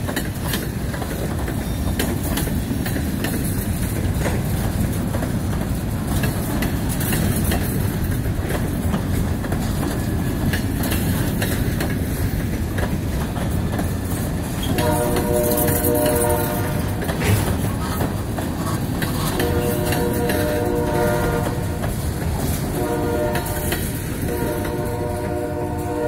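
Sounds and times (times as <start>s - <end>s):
freight cars rolling past: 0.0s - 26.0s.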